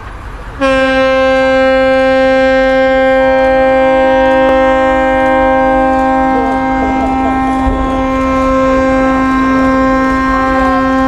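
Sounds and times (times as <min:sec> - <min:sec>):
fainter horn tone: 0:00.6 - 0:11.0
ship's horn long blast: 0:00.6 - 0:11.0.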